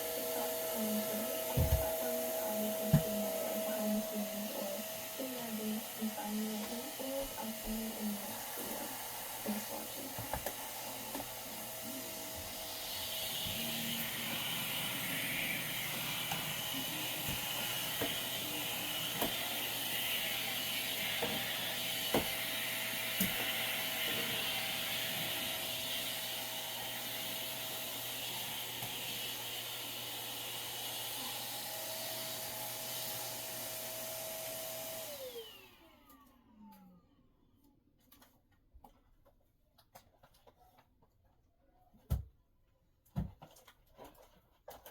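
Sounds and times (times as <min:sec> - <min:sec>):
vacuum cleaner running: 0:00.0 - 0:37.4.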